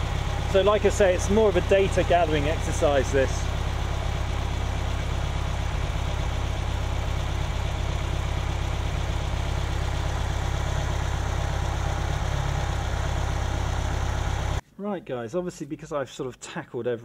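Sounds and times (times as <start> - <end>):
car engine idling: 0.0 - 14.6.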